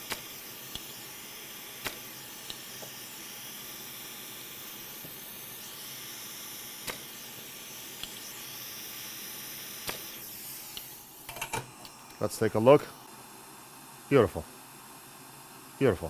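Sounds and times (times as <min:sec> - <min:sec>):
hot air station hissing: 0:00.0 - 0:16.0.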